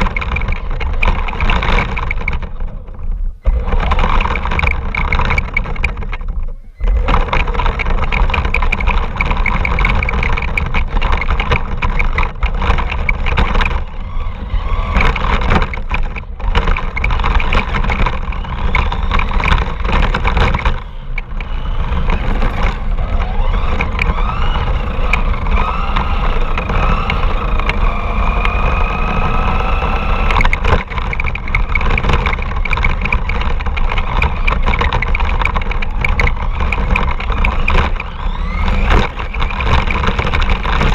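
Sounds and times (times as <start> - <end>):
motor whine: 0.0 - 40.9
rumble from rough ground: 0.0 - 40.9
toy car motor running: 0.0 - 40.9.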